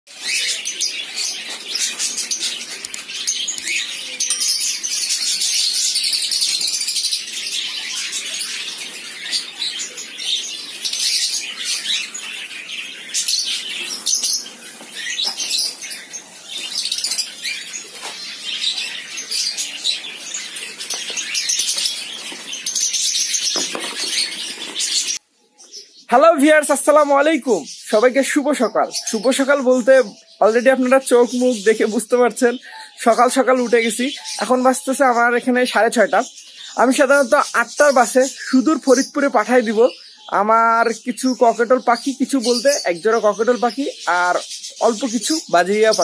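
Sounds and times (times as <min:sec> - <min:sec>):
parrots chattering and chirping: 0:00.1 - 0:26.1, 0:27.6 - 0:46.0.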